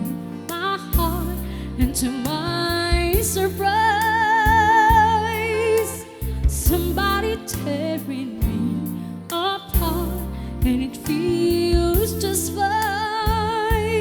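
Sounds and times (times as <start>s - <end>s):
slow ballad music: 0.0s - 14.0s.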